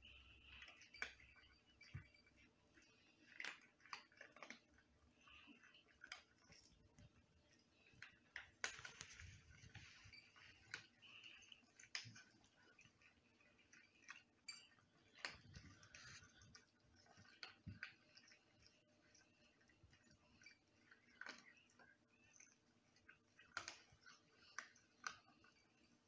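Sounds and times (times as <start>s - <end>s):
cats chewing food: 0.0s - 26.0s.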